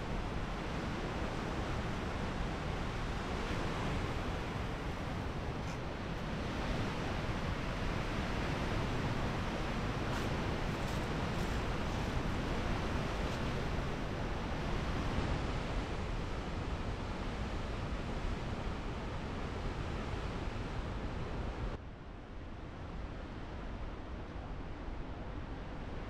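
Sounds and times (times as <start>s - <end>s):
steady rushing noise: 0.0s - 21.8s.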